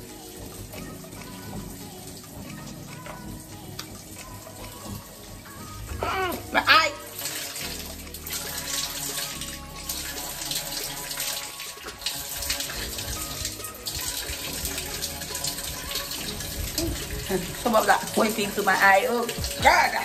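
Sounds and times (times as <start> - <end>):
shower water spraying: 0.0 - 20.0.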